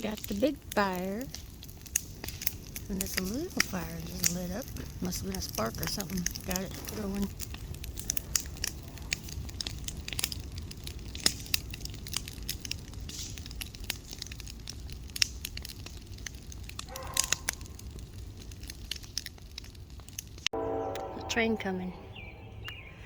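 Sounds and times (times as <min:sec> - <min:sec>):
sharp pops of burning wood: 0:00.0 - 0:20.6
bonfire crackling: 0:00.0 - 0:23.0.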